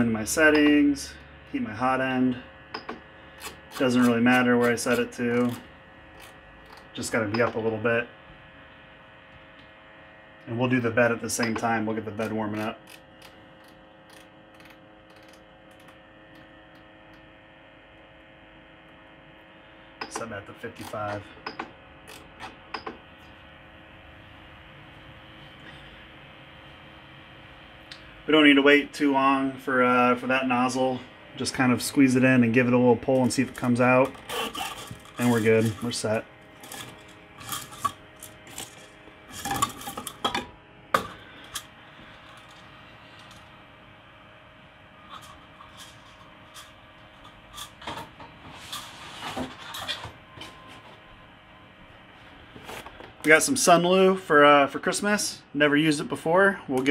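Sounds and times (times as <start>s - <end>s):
printer fans humming: 0.0s - 55.9s.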